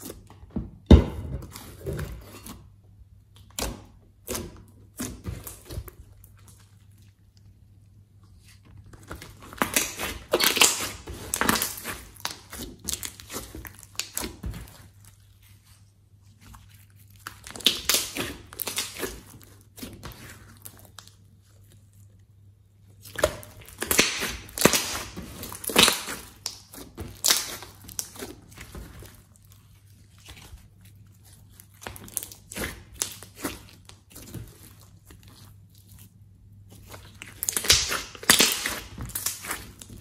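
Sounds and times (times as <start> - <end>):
slime squelching and crackling: 1.4 - 40.0.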